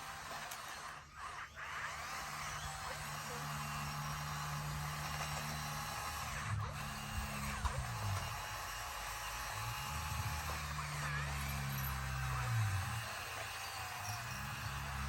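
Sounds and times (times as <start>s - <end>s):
bulldozer diesel engine running: 2.0s - 15.0s.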